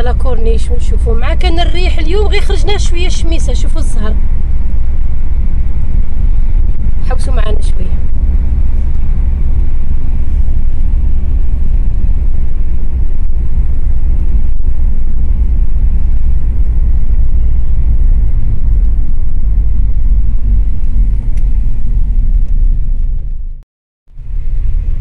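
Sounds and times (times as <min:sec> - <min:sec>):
wind buffeting microphone: 0:00.0 - 0:23.6
car road and engine rumble: 0:00.0 - 0:25.0.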